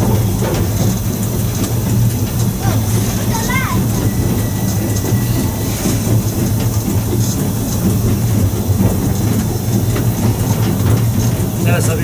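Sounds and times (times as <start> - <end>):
steam locomotive rumbling: 0.0 - 12.0
wheels on rails: 0.0 - 12.0.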